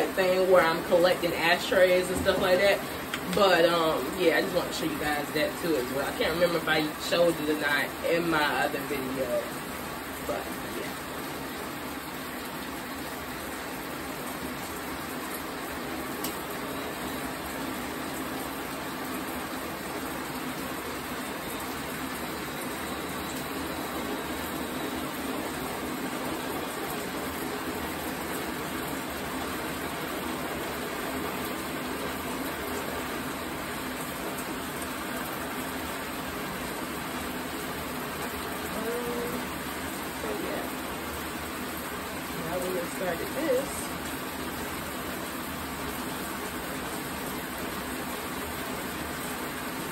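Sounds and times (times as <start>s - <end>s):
shower water running: 0.0s - 49.9s.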